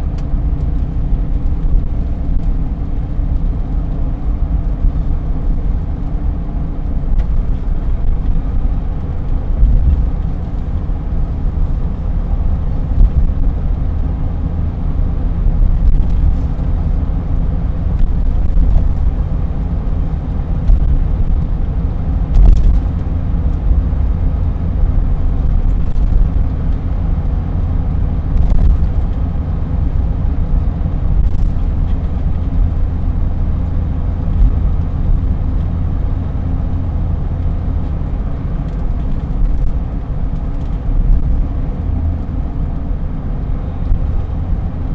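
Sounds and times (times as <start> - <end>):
pickup truck driving rumble: 0.0 - 44.9.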